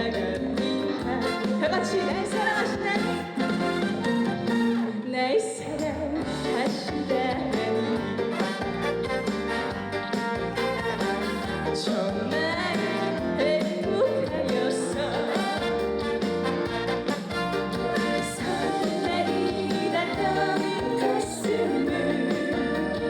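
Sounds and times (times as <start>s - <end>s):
person singing: 0.0s - 3.8s, 6.2s - 23.0s
live band music: 0.0s - 23.0s.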